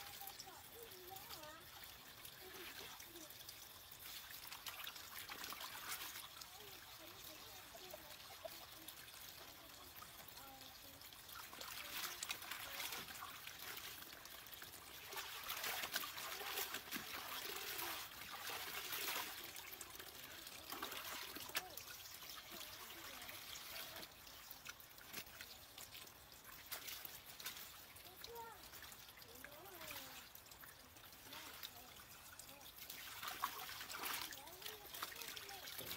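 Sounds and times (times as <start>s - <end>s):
water sloshing in a metal basin: 0.0s - 35.9s.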